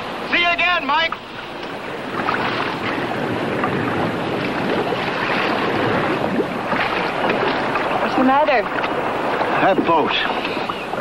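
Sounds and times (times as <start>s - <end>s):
water rushing against hull: 0.0s - 11.0s.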